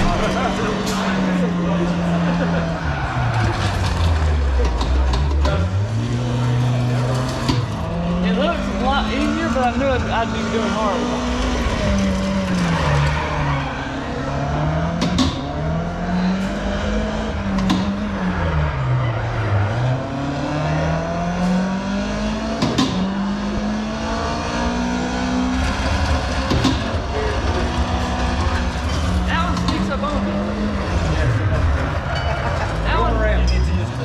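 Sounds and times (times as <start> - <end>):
race car engine revving: 0.0 - 34.0.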